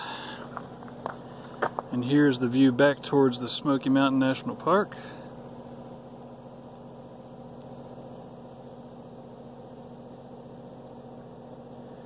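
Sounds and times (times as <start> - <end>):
faint high pulsing buzz: 0.0 - 12.0
machinery hum: 0.0 - 12.0.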